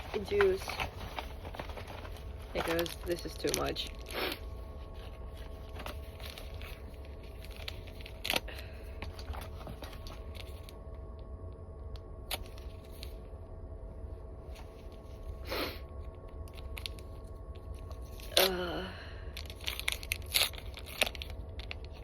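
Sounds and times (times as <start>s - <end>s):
rustling and crinkling: 0.0s - 11.1s, 12.3s - 13.4s, 14.4s - 22.0s.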